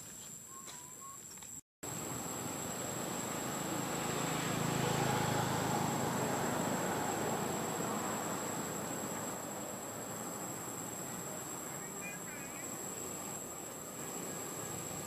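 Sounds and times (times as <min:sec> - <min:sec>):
high-pitched insect drone: 0:00.3 - 0:15.0
distant vehicle rumble: 0:01.8 - 0:15.0.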